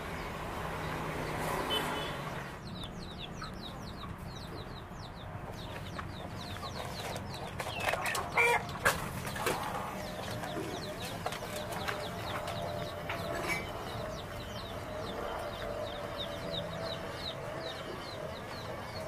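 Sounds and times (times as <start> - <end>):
chicks peeping: 0.1 - 19.0
chickens clucking: 2.8 - 19.0.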